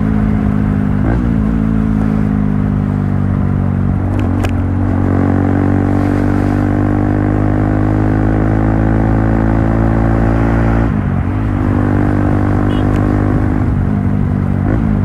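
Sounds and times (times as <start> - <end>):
motorcycle engine running: 0.0 - 10.0, 11.0 - 15.0.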